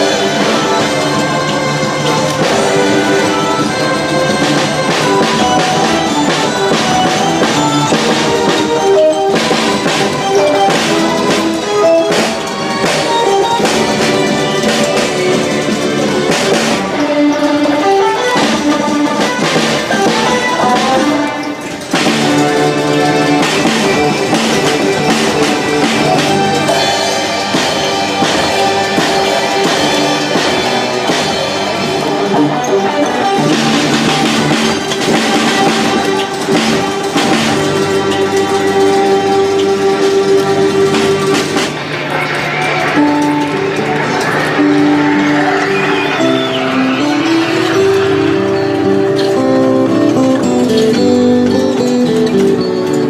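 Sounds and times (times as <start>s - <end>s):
drum kit beat: 0.0s - 17.0s, 17.7s - 52.8s
instrumental rock music: 0.0s - 53.0s.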